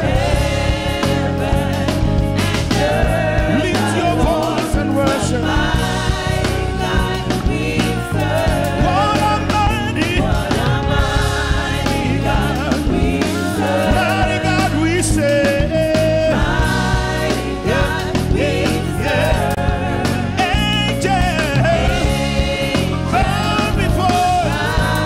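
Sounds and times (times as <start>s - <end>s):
bass line: 0.0s - 25.0s
voices singing: 0.0s - 25.0s.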